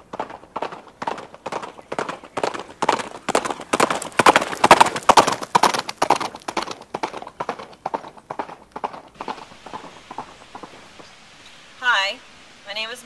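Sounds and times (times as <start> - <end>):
horse hooves clip-clopping: 0.0 - 11.2.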